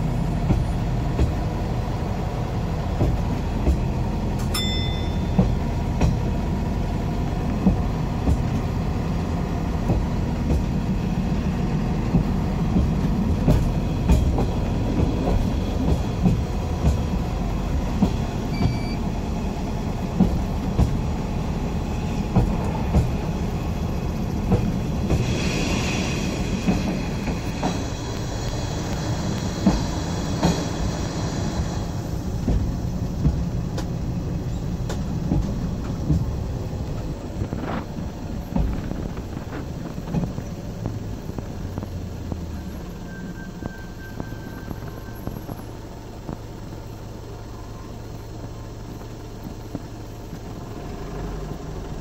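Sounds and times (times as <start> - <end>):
rail vehicle rumble: 0.0 - 52.0
wheels knocking on rail joints: 0.1 - 2.0, 2.8 - 25.3, 26.4 - 30.8, 31.7 - 47.1
hiss and whine: 5.4 - 52.0.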